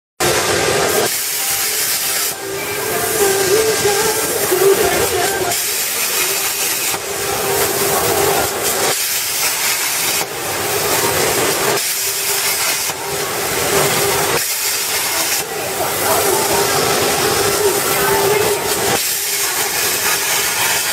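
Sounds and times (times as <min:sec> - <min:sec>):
plasma cutting torch hissing: 0:00.2 - 0:20.9
steady hum: 0:00.2 - 0:20.9.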